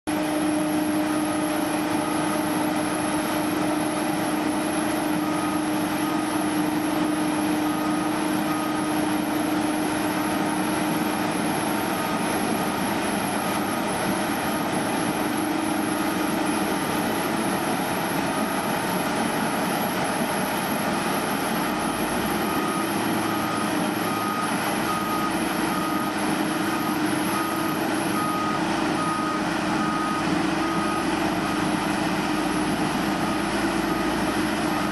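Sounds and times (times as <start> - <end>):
conveyor truck droning: 0.1 - 34.9
backup alarm beeping: 0.2 - 19.0, 19.9 - 34.9.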